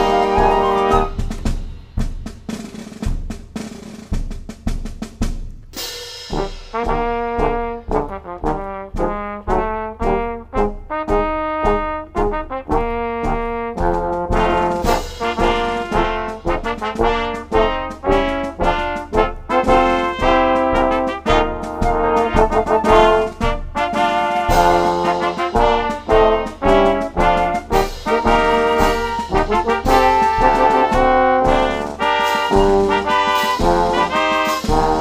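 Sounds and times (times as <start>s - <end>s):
brass playing punchy chords: 0.0s - 1.7s, 6.2s - 35.0s
snare and bass drum march beat: 0.0s - 35.0s.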